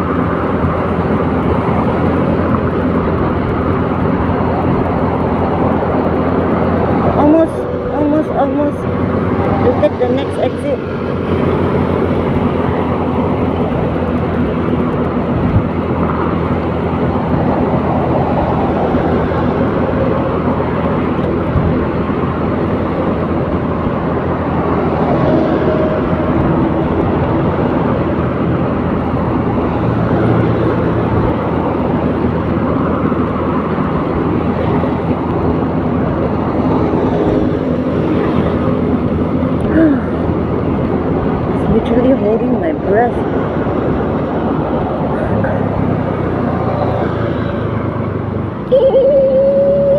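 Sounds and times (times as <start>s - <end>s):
engine hum: 0.0s - 49.9s
road and wind noise: 0.0s - 49.9s.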